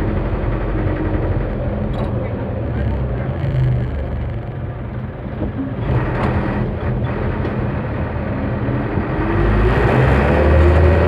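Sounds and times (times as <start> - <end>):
truck diesel engine accelerating: 0.0 - 11.0.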